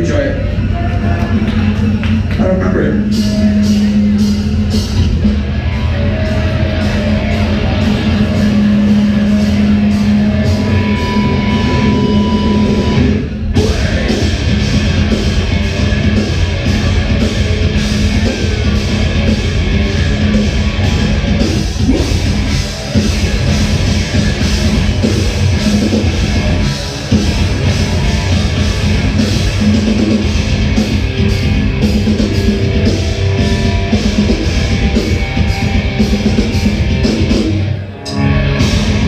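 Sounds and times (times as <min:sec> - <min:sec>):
rock band playing: 0:00.0 - 0:39.0.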